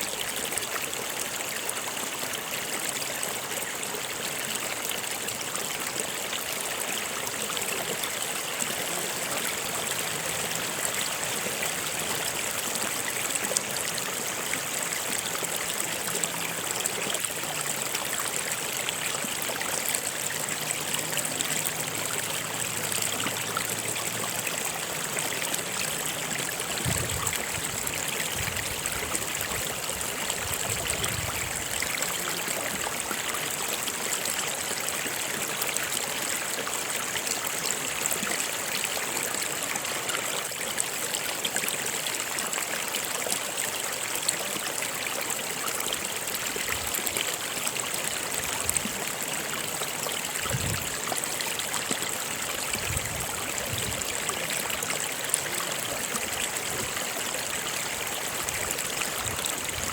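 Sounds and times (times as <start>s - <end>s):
stream of water running: 0.0s - 59.9s.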